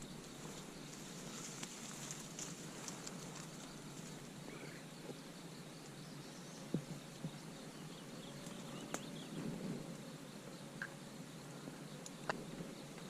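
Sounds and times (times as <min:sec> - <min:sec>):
bird chirp: 0:00.0 - 0:13.0
steady background noise: 0:00.0 - 0:13.0.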